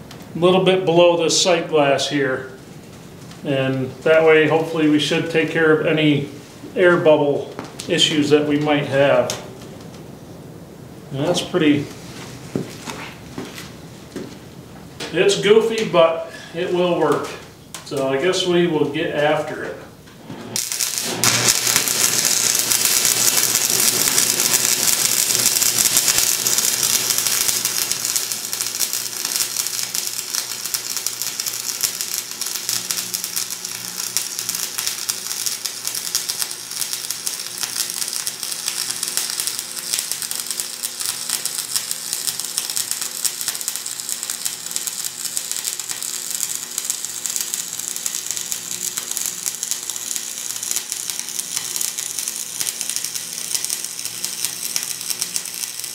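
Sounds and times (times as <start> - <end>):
arc welding crackling: 0.0 - 55.9.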